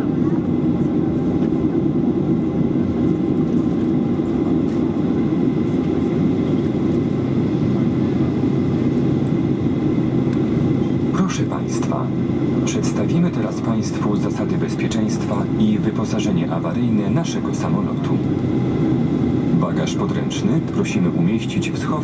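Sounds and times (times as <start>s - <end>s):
aircraft cabin engine drone: 0.0s - 22.0s.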